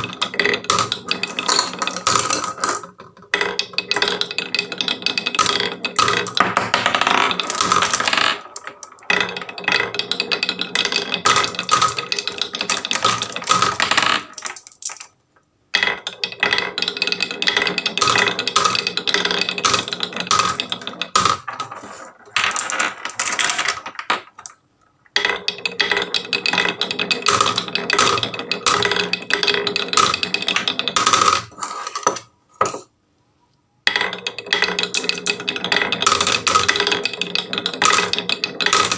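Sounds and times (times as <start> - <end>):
marbles rattling down wooden track: 0.0 - 32.9, 33.9 - 38.9.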